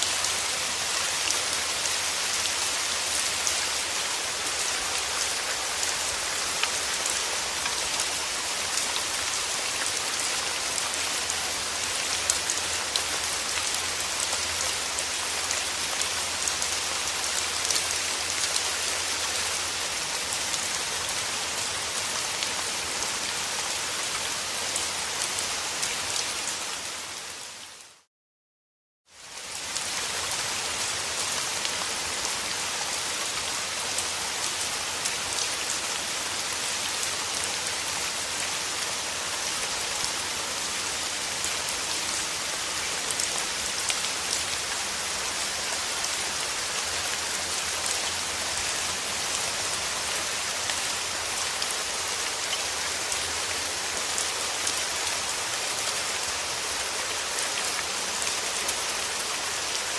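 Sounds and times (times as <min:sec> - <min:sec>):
steady rain falling: 0:00.0 - 0:28.1, 0:29.1 - 0:59.9.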